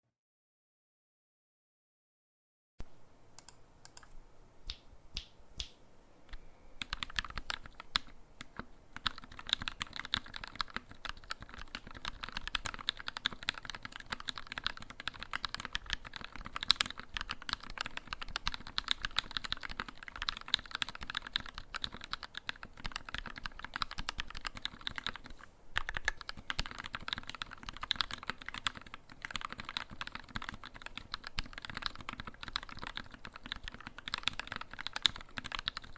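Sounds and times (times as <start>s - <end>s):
mechanical keyboard typing: 6.8s - 35.9s.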